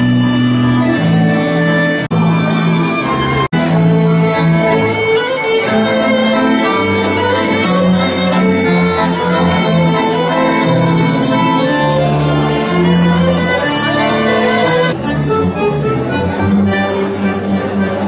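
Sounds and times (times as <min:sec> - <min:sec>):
accordion: 0:00.0 - 0:18.0
double bass: 0:00.0 - 0:18.0
tango band playing: 0:00.0 - 0:18.0.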